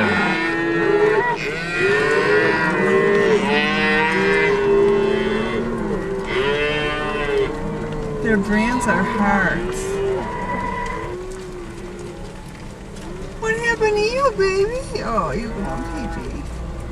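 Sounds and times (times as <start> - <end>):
cows and calves mooing: 0.0 - 16.9.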